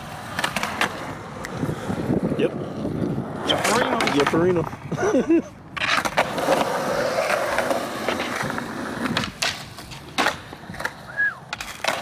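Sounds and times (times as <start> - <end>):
skateboard clacking on ground: 0.0 - 4.9, 5.6 - 12.0
skateboard wheels rolling: 0.0 - 12.0.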